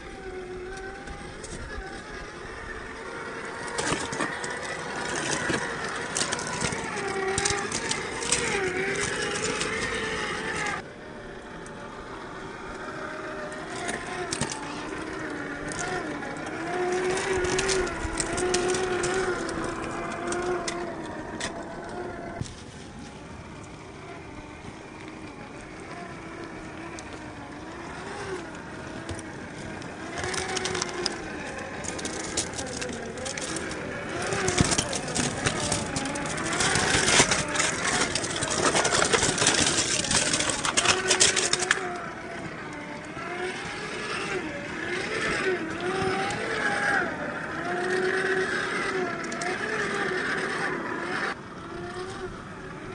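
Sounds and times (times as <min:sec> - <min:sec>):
tyres crunching on ice and rock: 0:00.0 - 0:10.8, 0:11.4 - 0:52.9
electric motor and gearbox whining: 0:00.0 - 0:52.9.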